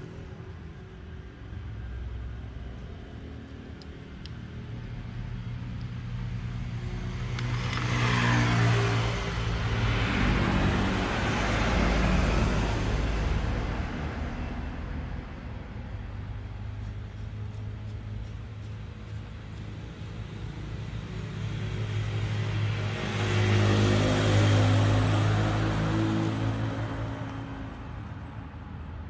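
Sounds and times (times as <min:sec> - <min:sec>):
vehicle passing by: 0:04.7 - 0:28.6.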